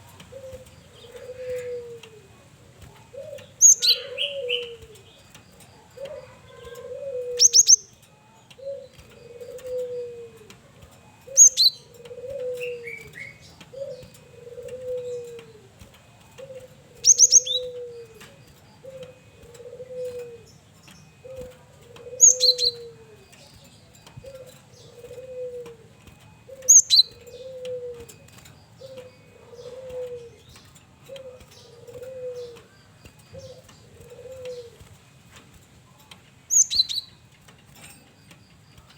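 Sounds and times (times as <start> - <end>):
dove cooing: 0.0 - 37.5.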